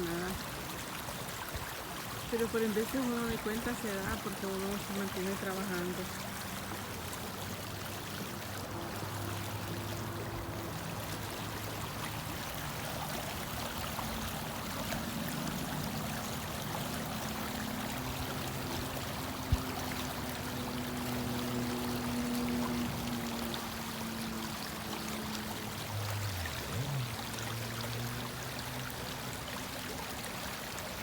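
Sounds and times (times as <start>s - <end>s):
creek water flowing: 0.0s - 31.0s.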